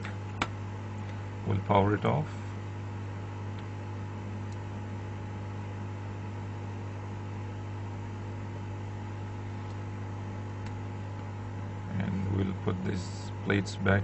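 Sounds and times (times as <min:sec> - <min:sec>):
electrical machine hum: 0:00.0 - 0:14.0.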